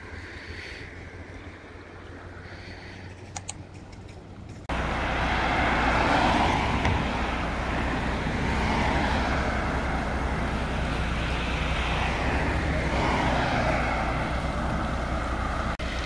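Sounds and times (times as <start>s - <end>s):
highway traffic rushing: 0.0s - 16.0s.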